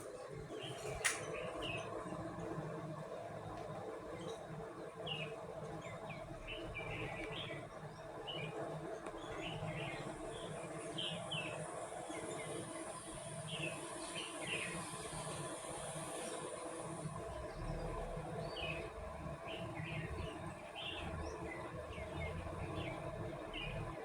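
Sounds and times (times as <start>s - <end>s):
small birds chirping: 0.0s - 2.2s, 4.2s - 24.0s
ceiling fan humming: 0.0s - 24.0s
faint high whine: 0.0s - 24.0s.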